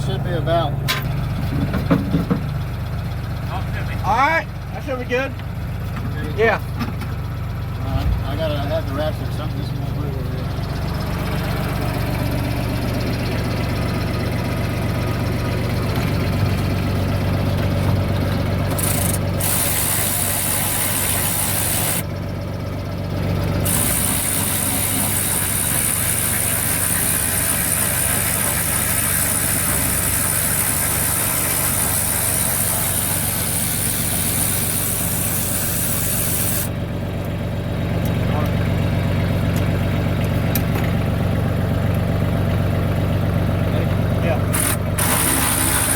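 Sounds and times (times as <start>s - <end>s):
vehicle engine idling: 0.0s - 45.9s.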